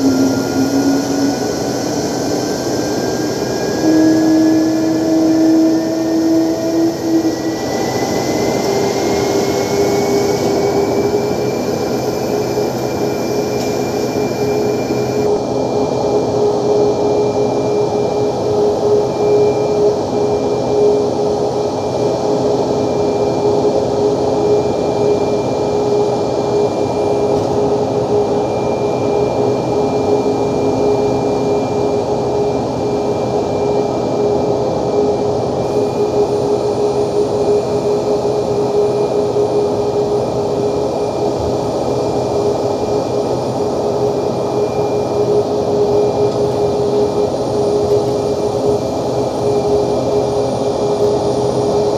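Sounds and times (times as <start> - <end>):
jet engines running at low thrust: 0.0 - 51.9.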